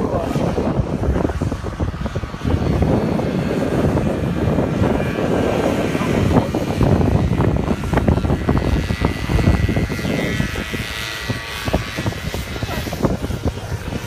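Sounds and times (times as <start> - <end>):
snowmobile engines racing: 0.0 - 14.0.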